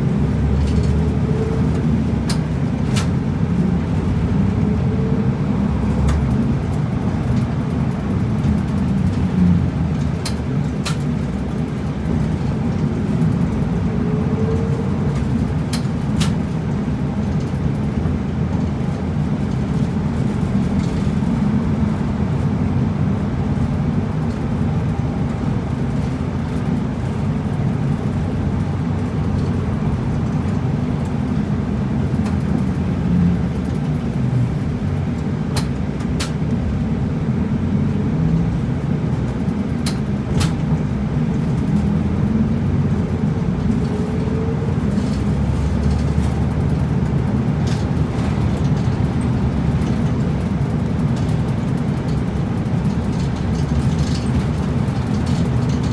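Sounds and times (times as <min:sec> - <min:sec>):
bus engine and road rumble: 0:00.0 - 0:55.9.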